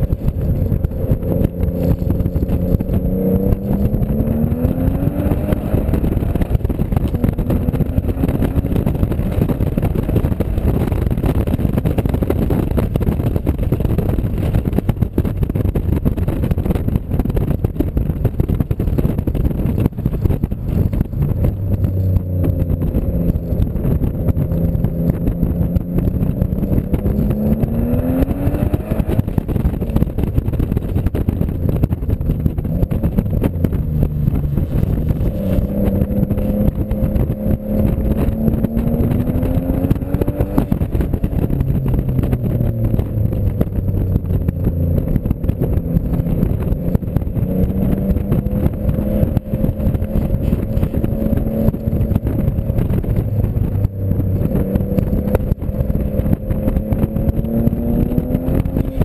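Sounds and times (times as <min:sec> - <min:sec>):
car engine accelerating: 0:00.0 - 0:59.0
road noise: 0:00.0 - 0:59.0.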